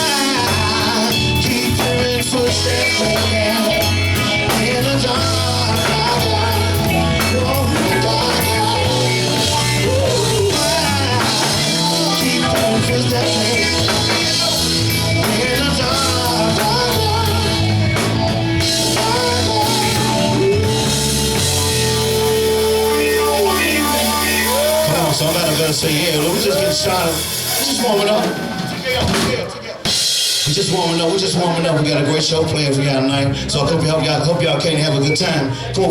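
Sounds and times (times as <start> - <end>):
electric guitar: 0.0 - 30.5
drum kit: 0.0 - 31.6
bass guitar: 0.0 - 35.9
live band playing: 0.0 - 35.9.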